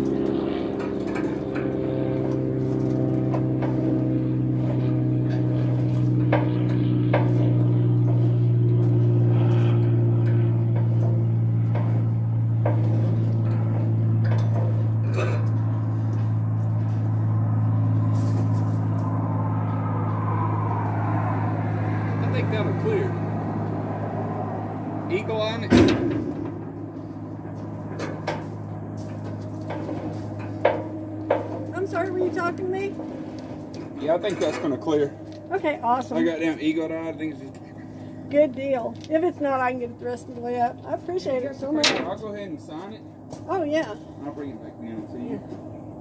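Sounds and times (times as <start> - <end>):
diesel engine idling: 7.4 - 46.0.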